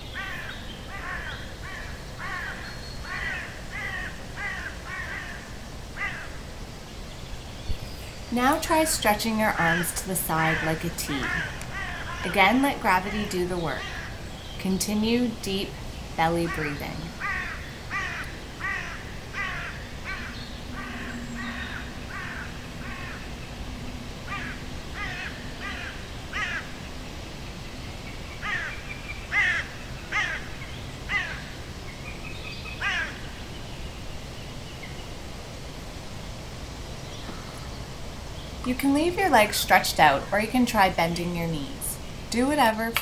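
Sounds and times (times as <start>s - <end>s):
bird calling: 0.0s - 6.4s, 7.6s - 27.0s, 28.2s - 33.8s, 37.0s - 43.0s.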